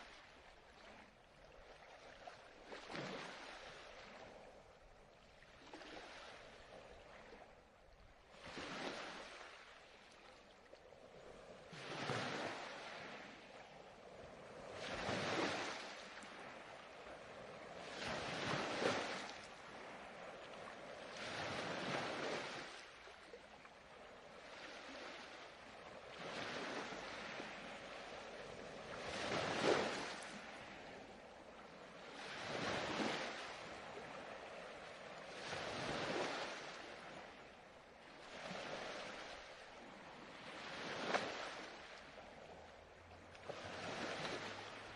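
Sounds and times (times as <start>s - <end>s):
waves breaking: 0.0s - 44.9s.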